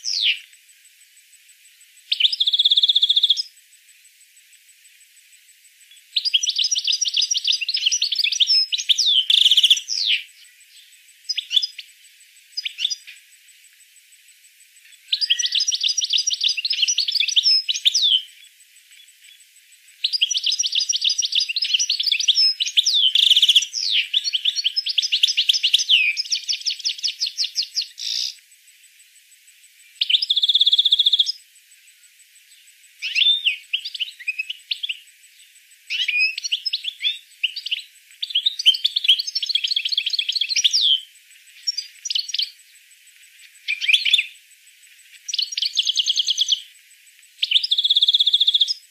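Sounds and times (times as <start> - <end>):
songbird singing trills: 0.0 - 48.9.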